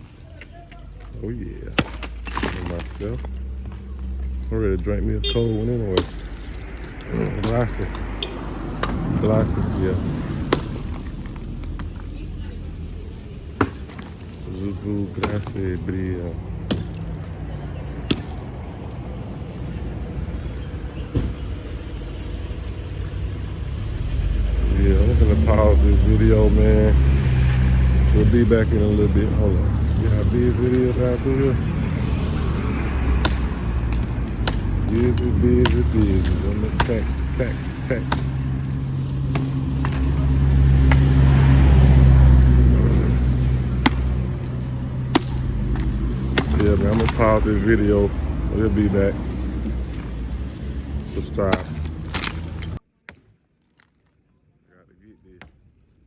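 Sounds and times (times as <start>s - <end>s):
traffic rumble: 0.0s - 52.9s
vehicle engine passing by: 2.8s - 13.5s, 14.5s - 52.8s.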